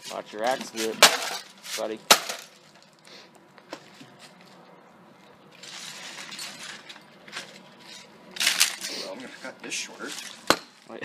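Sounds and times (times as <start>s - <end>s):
rustling and clattering of parts: 0.0s - 4.6s, 5.5s - 11.0s.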